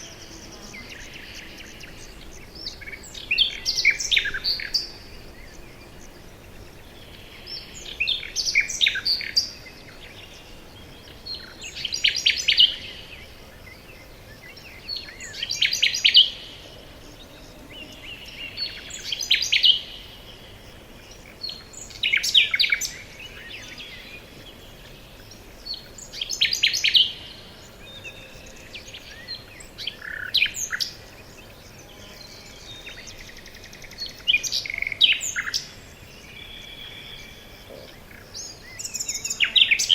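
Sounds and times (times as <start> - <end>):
faint steady hiss: 0.0 - 39.9
songbird chirping and trilling: 0.0 - 39.9.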